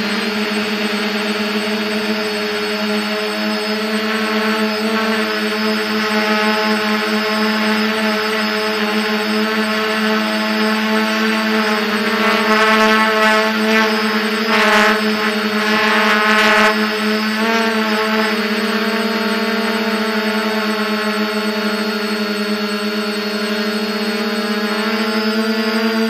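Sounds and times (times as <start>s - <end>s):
drone motors buzzing: 0.0s - 26.0s.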